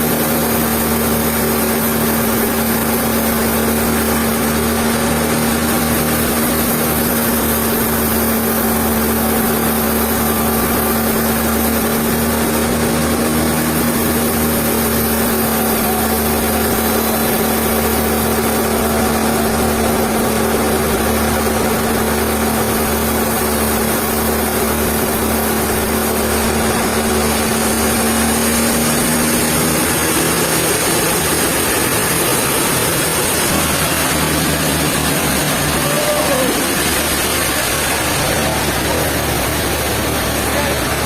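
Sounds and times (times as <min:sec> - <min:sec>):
sawmill machinery running: 0:00.0 - 0:41.0
steady hum: 0:00.0 - 0:41.0.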